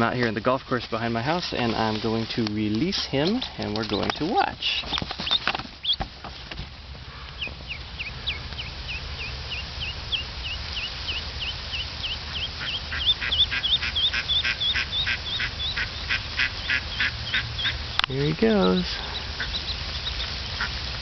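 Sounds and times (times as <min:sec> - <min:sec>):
duckling peeping: 0:00.0 - 0:21.0.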